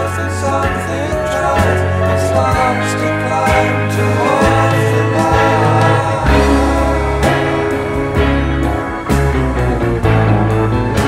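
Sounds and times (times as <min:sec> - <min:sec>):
rock music with guitar and bass: 0:00.0 - 0:11.0.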